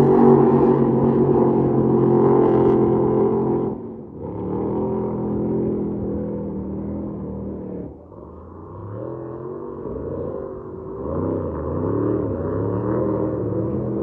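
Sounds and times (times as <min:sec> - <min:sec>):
powerboat engines droning: 0:00.0 - 0:14.0.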